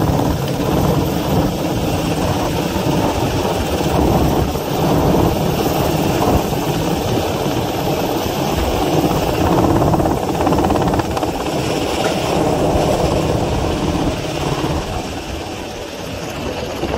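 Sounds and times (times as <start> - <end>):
helicopter rotor beating: 0.0 - 16.9.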